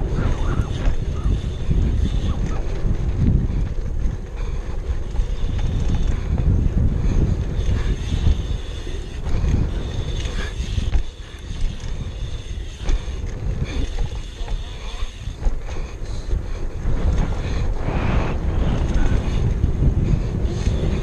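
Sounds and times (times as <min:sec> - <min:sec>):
bike clicks and rattles: 0:00.0 - 0:21.0
bike rolling over dirt: 0:00.0 - 0:21.0
wind buffeting microphone: 0:00.0 - 0:21.0.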